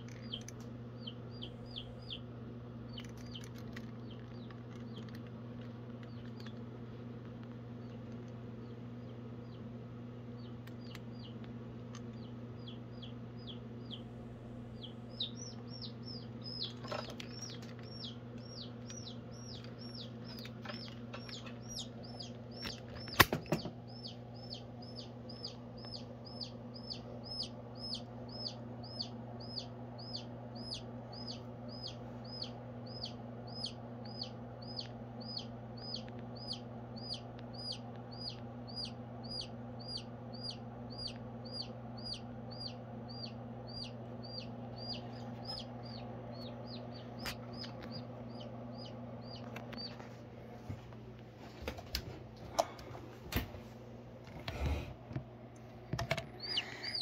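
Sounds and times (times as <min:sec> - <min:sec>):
chick peeping: 0:00.0 - 0:06.7, 0:07.8 - 0:50.2, 0:56.0 - 0:57.0.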